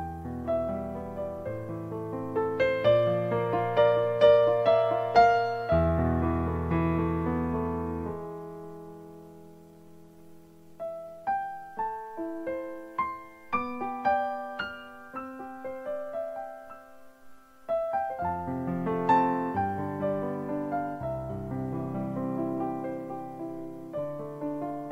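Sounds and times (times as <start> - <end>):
slow piano music: 0.0 - 24.9.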